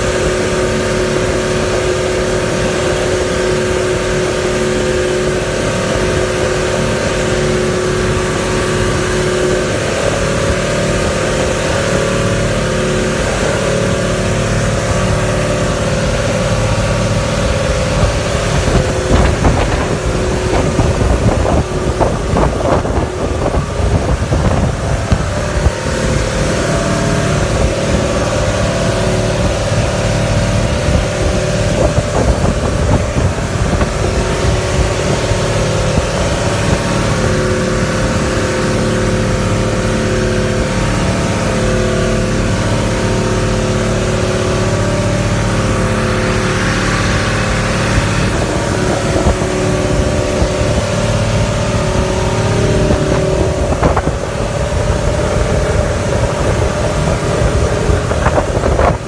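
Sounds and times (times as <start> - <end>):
boat engine running: 0.0 - 59.0
wind and water rushing: 0.0 - 59.0.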